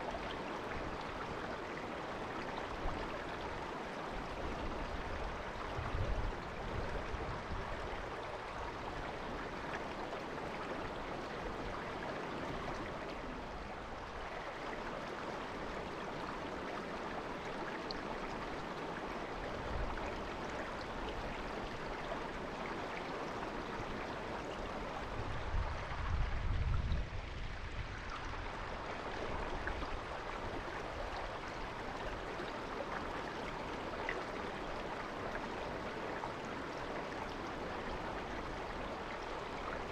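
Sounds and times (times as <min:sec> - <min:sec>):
river babbling: 0:00.0 - 0:26.2, 0:27.2 - 0:39.9.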